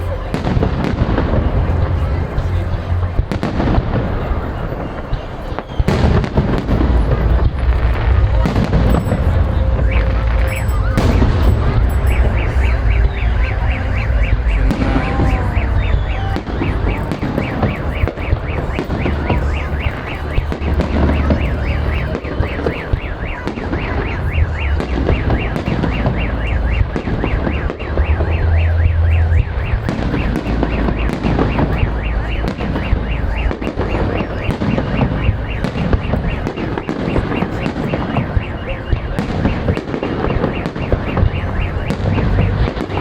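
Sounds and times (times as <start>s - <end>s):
fireworks booming and cracking: 0.0s - 43.0s
car alarm beeping rapidly: 5.6s - 43.0s.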